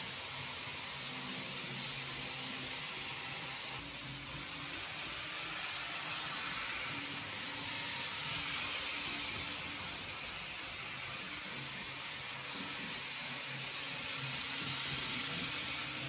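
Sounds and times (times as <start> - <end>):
model train wheels rolling: 0.0 - 16.0.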